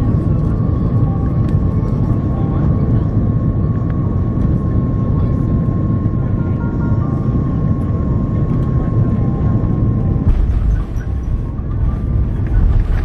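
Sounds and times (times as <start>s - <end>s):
airplane cabin rumble: 0.0s - 13.0s
jet engine whine: 0.0s - 13.0s.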